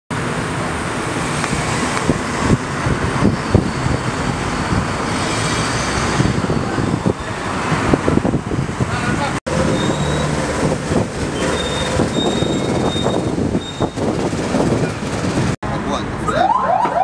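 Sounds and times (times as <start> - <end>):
cars driving past: 0.1 - 17.0.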